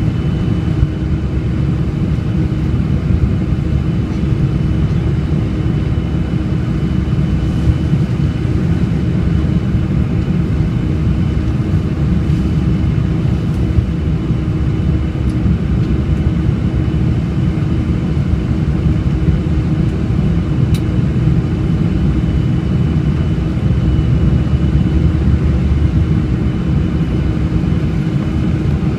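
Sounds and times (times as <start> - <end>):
faint jet engine whine: 0.0 - 28.9
jet engines rumbling: 0.0 - 28.9.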